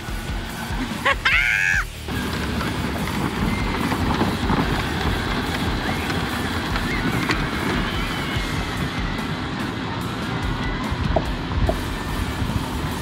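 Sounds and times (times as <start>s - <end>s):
toy car wheels and motors rumbling: 0.0s - 13.0s.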